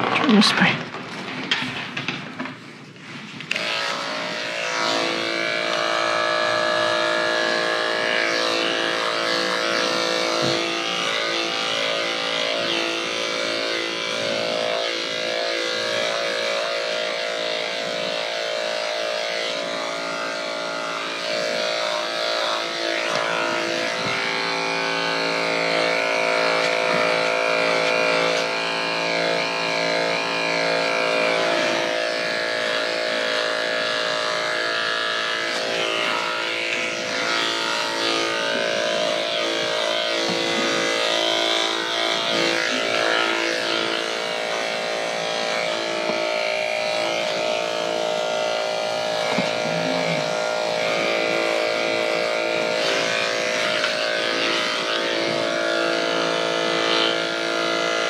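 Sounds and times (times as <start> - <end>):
electric clippers buzzing: 0.0 - 58.0.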